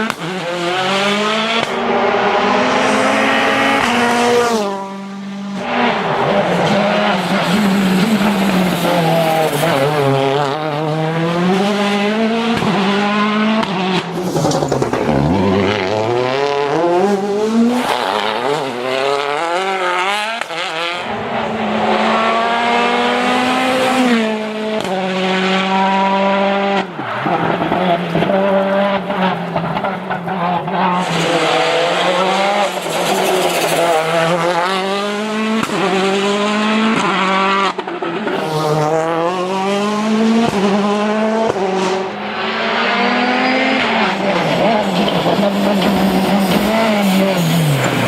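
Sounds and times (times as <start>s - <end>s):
rally car engine revving: 0.0s - 48.0s.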